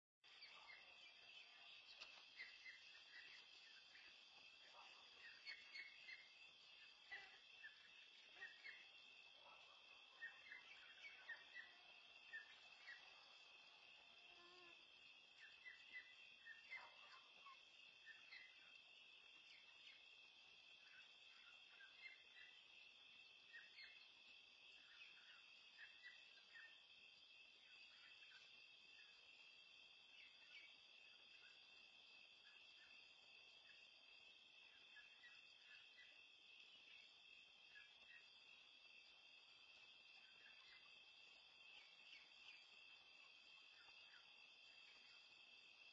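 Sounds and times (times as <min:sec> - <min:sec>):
night insects trilling: 0:00.2 - 0:45.9.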